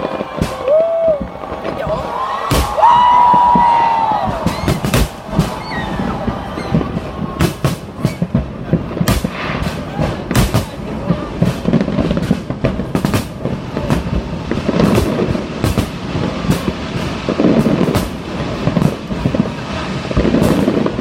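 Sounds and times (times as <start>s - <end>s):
fireworks bangs: 0.0s - 21.0s
low rumbling booms: 0.0s - 21.0s.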